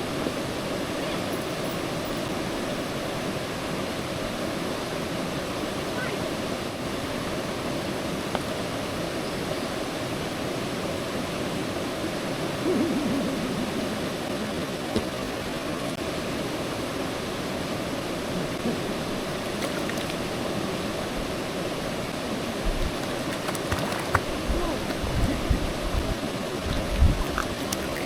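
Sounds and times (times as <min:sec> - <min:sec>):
waterfall rushing into pool: 0:00.0 - 0:28.0.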